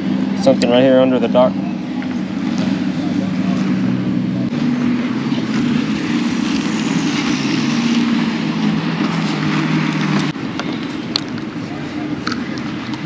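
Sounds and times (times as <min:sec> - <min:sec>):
steady engine drone: 0:00.0 - 0:13.0.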